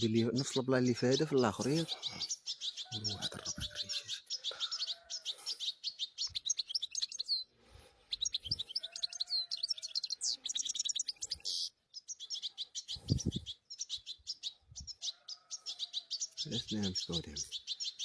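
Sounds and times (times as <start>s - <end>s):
chicks twittering: 0.0s - 18.0s.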